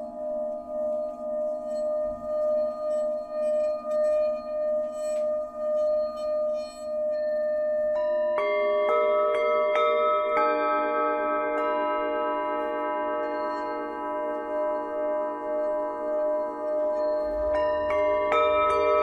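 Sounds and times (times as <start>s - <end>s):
singing bowl ringing tone: 0.0s - 19.0s
singing bowls struck: 0.0s - 19.0s.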